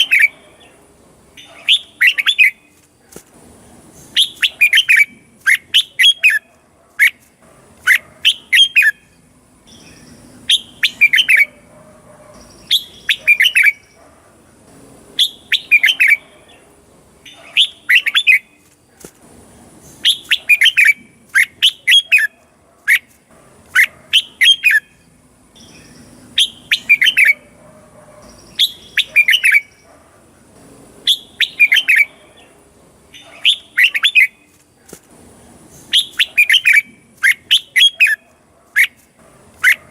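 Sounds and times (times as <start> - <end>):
bird chirping song: 0.0 - 2.8, 3.8 - 14.1, 15.2 - 18.7, 19.7 - 34.6, 35.6 - 39.9.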